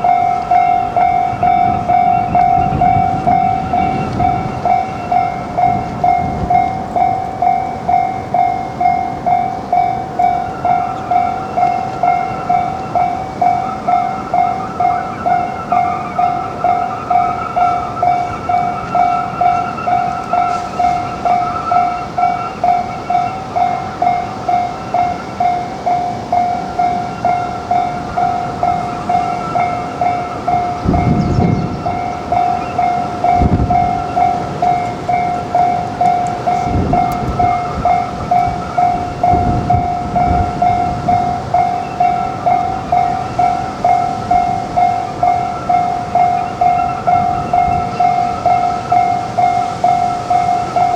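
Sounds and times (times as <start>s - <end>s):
level crossing warning bell: 0.0s - 50.9s.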